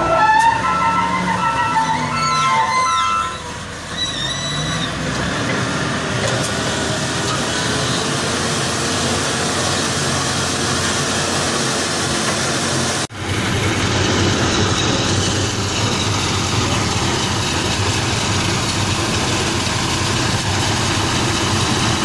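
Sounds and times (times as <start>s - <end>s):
diesel engine under load: 0.0s - 22.0s.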